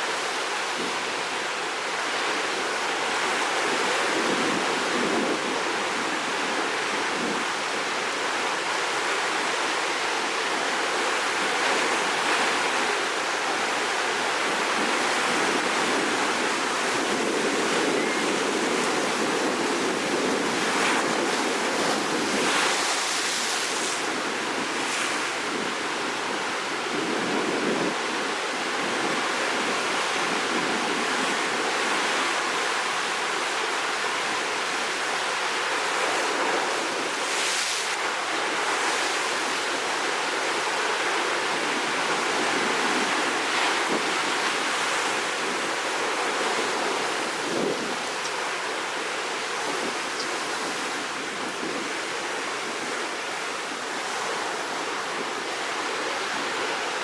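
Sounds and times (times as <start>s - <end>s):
sea surf breaking on shore: 0.0s - 57.0s.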